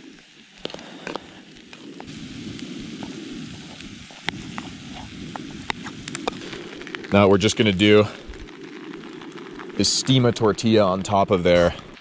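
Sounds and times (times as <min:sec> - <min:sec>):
fish sizzling in a frying pan: 0:00.0 - 0:12.0
gas stove burning: 0:00.0 - 0:12.0.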